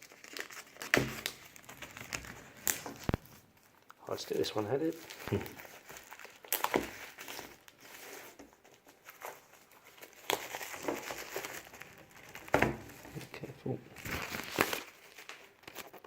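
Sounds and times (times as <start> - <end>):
plastic shrink-wrap tearing: 0.0 - 16.0.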